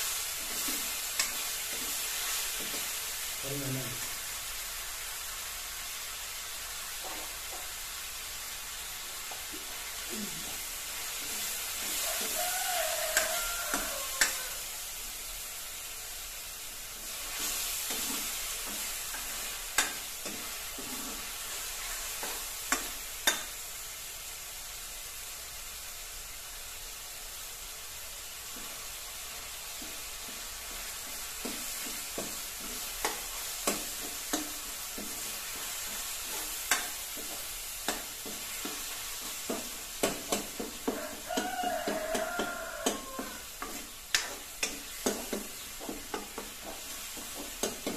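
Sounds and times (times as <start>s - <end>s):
tomatoes sizzling in a pan: 0.0s - 47.9s.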